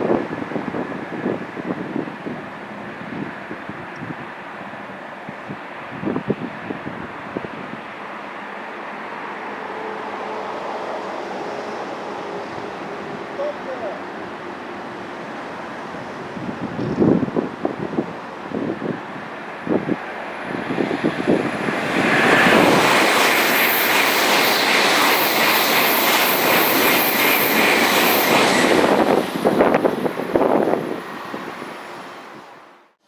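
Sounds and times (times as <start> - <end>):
high-speed train passing: 0.0 - 33.0.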